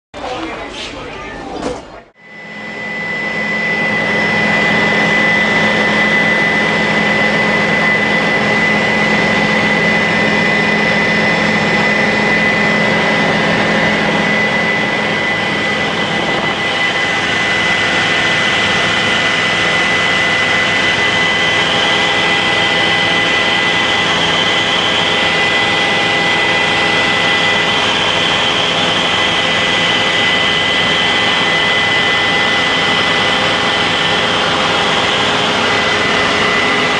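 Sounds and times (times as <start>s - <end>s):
helicopter engine and rotor drone: 2.2s - 36.9s.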